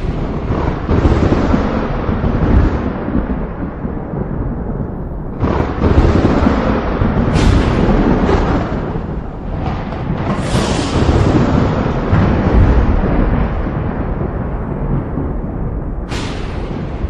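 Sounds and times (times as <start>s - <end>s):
thunder cracking and rumbling: 0.0s - 17.0s.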